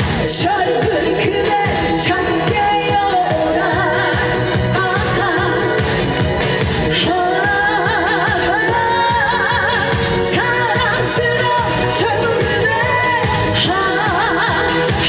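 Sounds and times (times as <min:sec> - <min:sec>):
woman singing with vibrato: 0:00.0 - 0:06.2, 0:06.8 - 0:15.0
upbeat pop backing track: 0:00.0 - 0:15.0.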